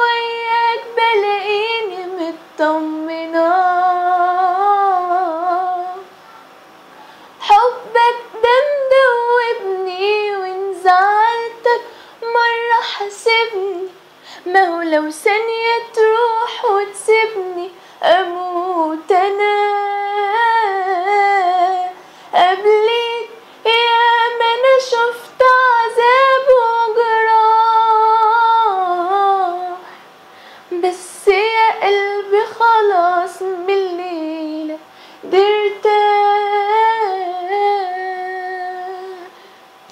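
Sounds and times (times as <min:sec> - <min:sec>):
woman singing unaccompanied: 0:00.0 - 0:06.2, 0:07.4 - 0:30.0, 0:30.6 - 0:39.9.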